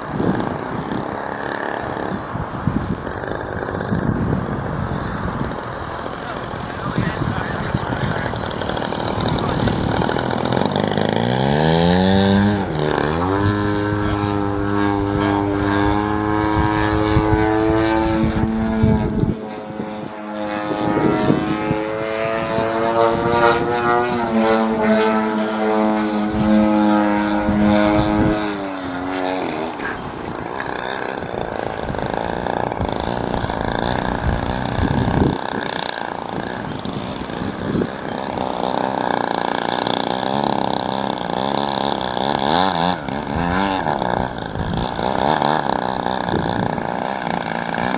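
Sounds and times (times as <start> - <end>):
model plane motor and propeller: 0.0 - 47.9.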